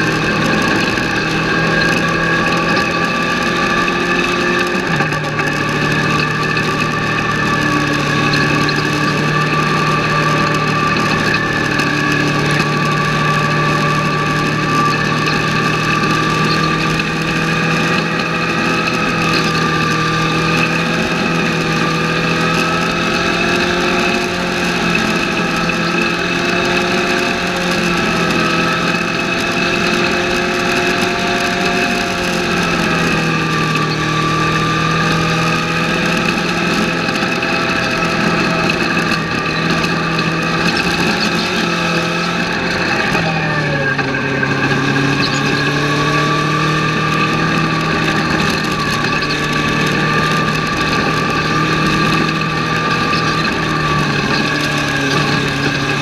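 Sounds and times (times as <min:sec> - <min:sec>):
race car engine revving: 0:00.0 - 0:56.0
road and wind noise: 0:00.0 - 0:56.0.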